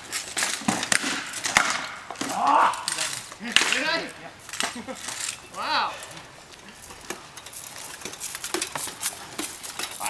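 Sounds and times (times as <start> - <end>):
armour gear clicking and clinking: 0.0 - 10.0.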